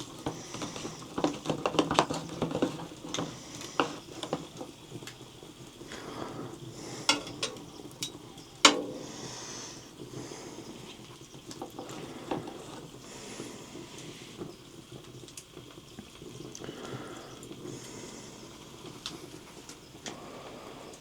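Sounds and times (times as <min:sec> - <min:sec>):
burning wood crackling and popping: 0:00.0 - 0:21.0
meat sizzling on a grill: 0:00.0 - 0:21.0.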